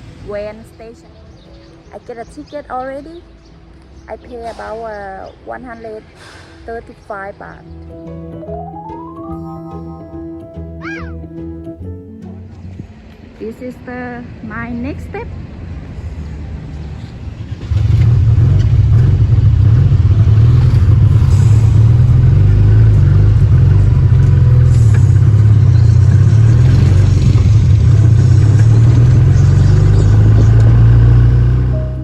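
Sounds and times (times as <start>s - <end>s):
vehicle rumbling: 0.0s - 32.0s.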